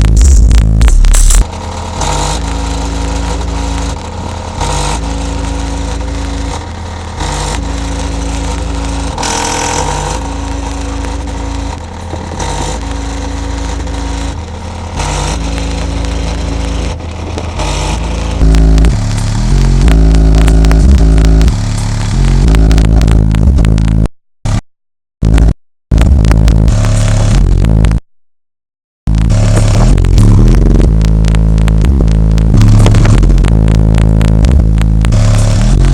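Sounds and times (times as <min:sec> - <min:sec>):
bass-heavy electronic music: 0:00.0 - 0:24.6, 0:25.2 - 0:28.0, 0:29.1 - 0:35.9.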